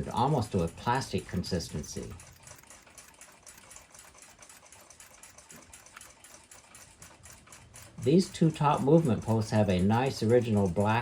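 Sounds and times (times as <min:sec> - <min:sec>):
fast mechanical ticking: 0:00.0 - 0:11.0.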